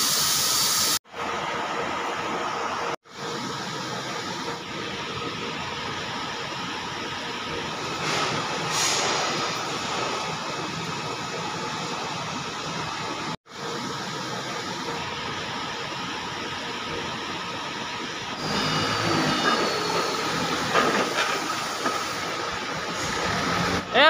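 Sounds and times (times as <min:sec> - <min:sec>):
factory machinery rushing: 0:00.0 - 0:24.0.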